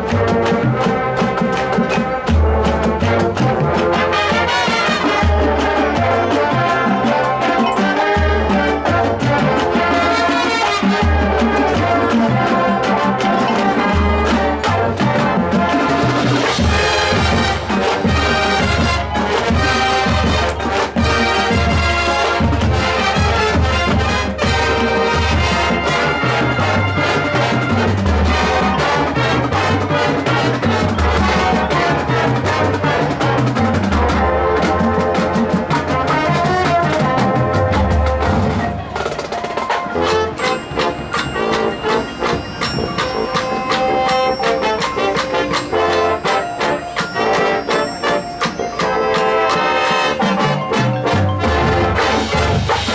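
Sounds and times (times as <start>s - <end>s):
brass section playing tune: 0.0s - 52.9s
drum line beat: 0.0s - 52.9s
marching band playing: 0.0s - 52.9s.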